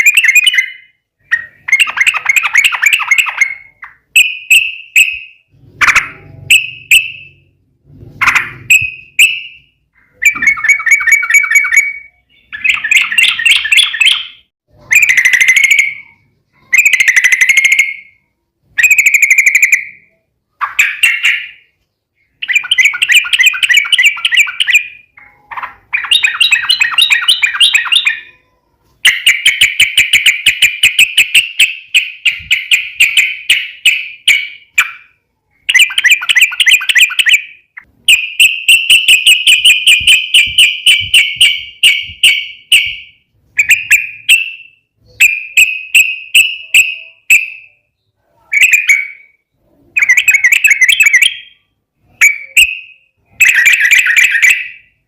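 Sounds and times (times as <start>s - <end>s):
bird singing bubbling song: 0.0s - 7.5s, 8.2s - 55.0s.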